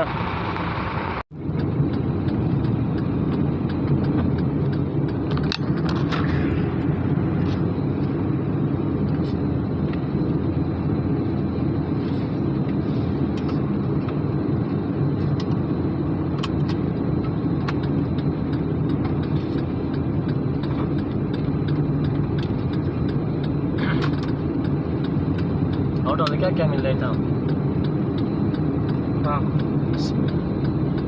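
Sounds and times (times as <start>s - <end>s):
vehicle engine rumble: 0.0s - 31.0s.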